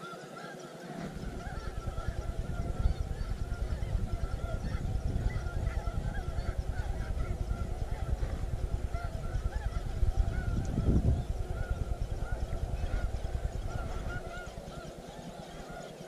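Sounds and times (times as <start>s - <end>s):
geese honking: 0.0s - 16.0s
low rumble: 1.1s - 14.8s.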